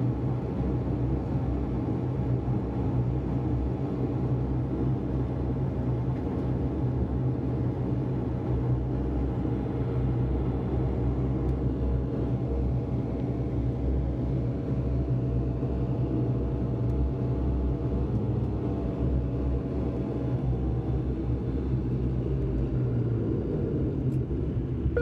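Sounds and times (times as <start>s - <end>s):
airliner machinery drone in cabin: 0.0s - 25.0s.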